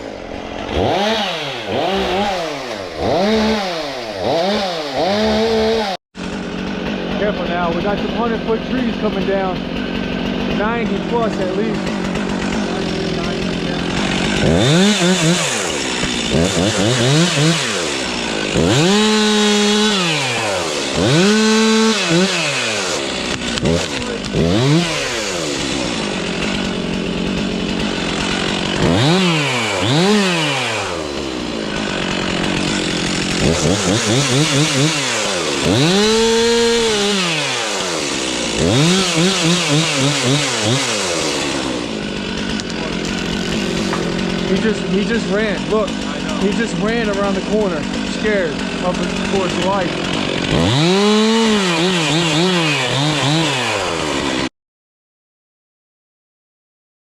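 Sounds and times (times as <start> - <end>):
chainsaw revving: 0.0 - 54.5.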